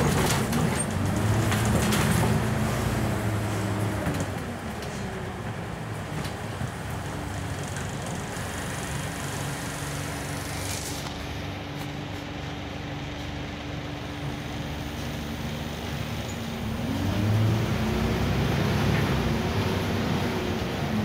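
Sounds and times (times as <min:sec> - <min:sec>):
bus diesel engine idling and revving: 0:00.0 - 0:21.0.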